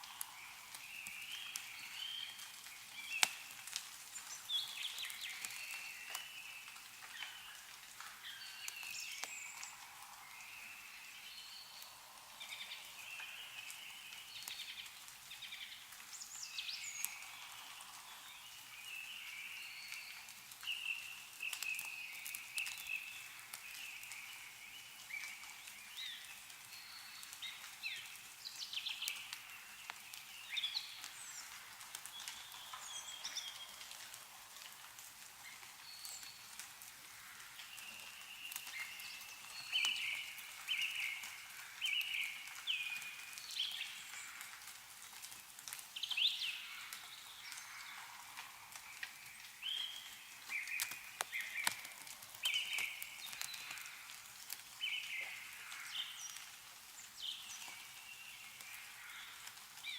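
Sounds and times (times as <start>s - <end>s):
small birds chirping: 0.0s - 59.9s
water dripping: 0.0s - 59.9s.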